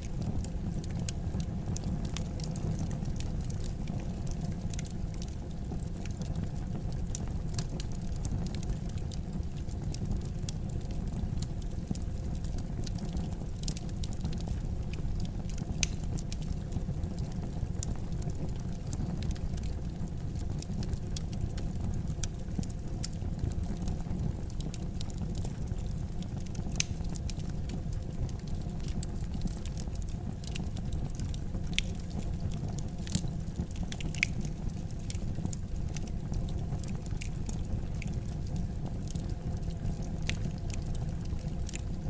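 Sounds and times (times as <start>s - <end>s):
fireplace fire crackling: 0.0s - 42.0s.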